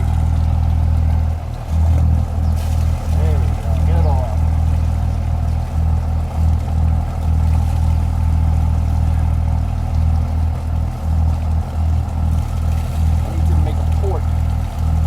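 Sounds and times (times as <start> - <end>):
diesel engine running at low revs: 0.0 - 15.0
water blown out of exhaust: 0.0 - 15.0.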